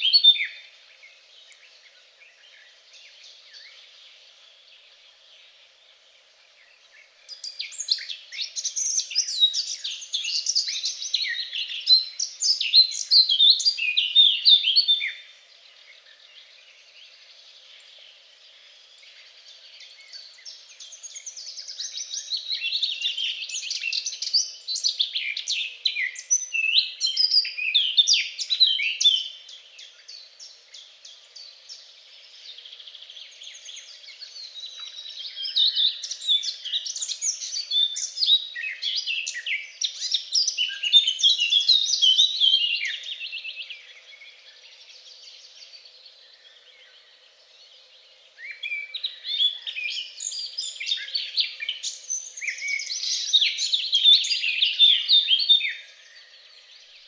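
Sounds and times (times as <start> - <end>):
songbird chirping and trilling: 0.0 - 57.0.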